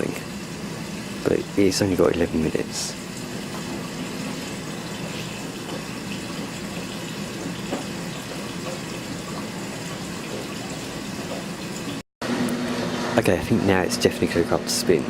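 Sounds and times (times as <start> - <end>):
washing machine water rushing: 0.0 - 15.0.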